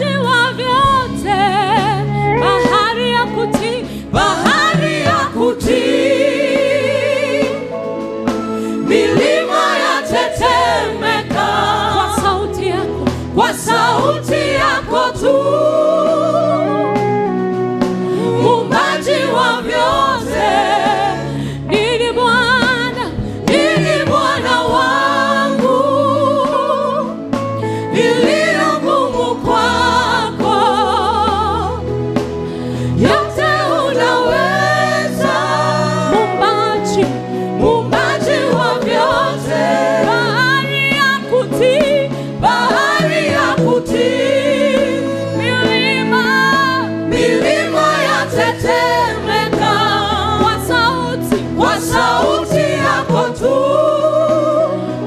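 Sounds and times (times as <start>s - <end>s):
choir singing: 0.0s - 55.0s
instrumental backing: 0.0s - 55.0s.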